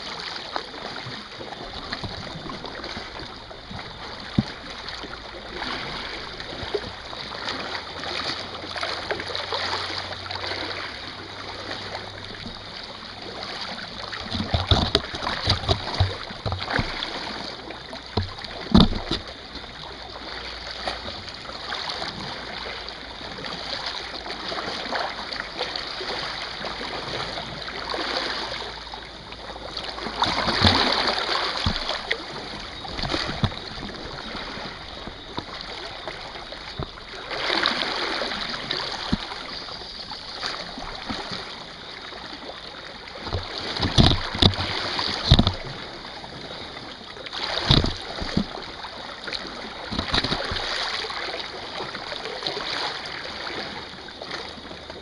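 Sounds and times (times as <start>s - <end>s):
small waves splashing over rocks: 0.0s - 55.0s.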